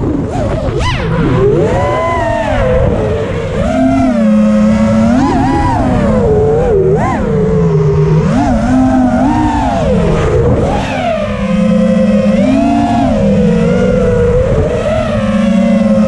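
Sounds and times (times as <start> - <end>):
quadcopter motors buzzing whine: 0.0 - 16.0
rushing airflow: 0.0 - 16.0.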